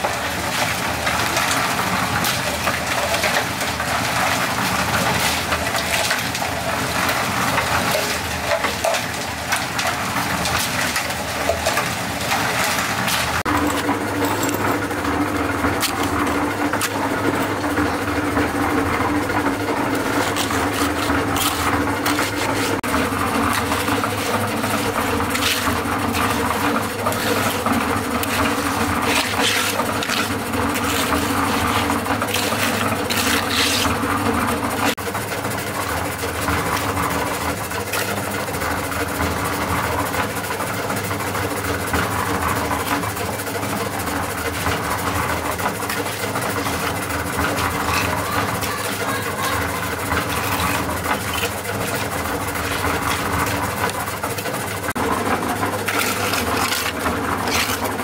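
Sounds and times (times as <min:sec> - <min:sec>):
motor running steadily: 0:00.0 - 0:58.0.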